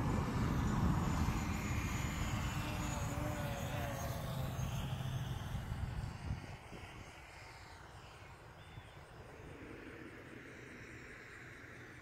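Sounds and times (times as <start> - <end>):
drone propeller hum: 0.0 - 12.0.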